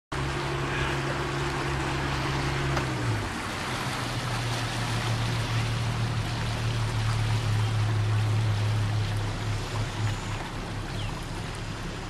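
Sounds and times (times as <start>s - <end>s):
boat engine humming: 0.1s - 12.0s
water rushing along hull: 0.1s - 12.0s.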